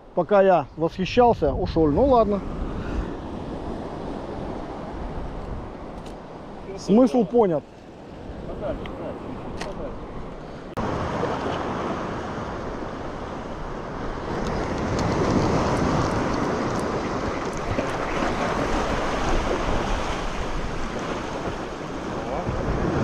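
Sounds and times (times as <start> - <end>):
wind on microphone: 0.9 - 6.8, 8.0 - 23.0
sea waves washing: 1.7 - 23.0.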